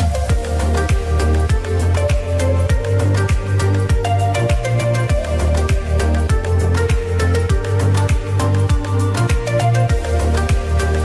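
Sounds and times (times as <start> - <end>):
background music with deep drum: 0.0 - 11.0.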